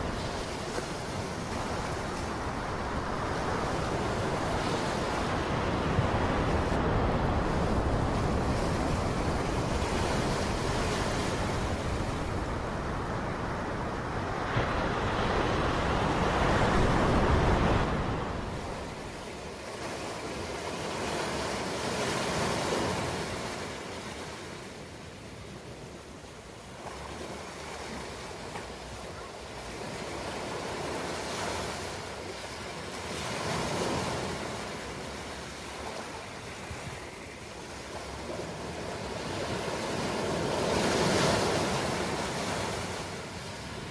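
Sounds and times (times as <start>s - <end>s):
ocean waves breaking on shore: 0.0s - 43.9s.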